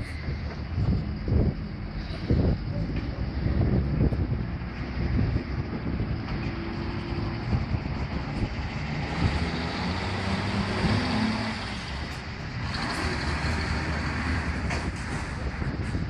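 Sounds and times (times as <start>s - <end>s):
buses and cars driving: 0.0s - 16.0s
tyre and traffic noise: 0.0s - 16.0s.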